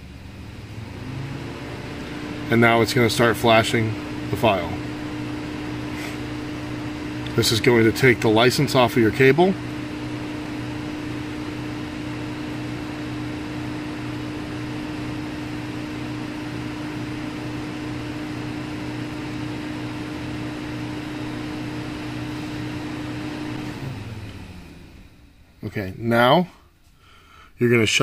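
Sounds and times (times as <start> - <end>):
electric fan whirring hum: 0.0 - 28.0.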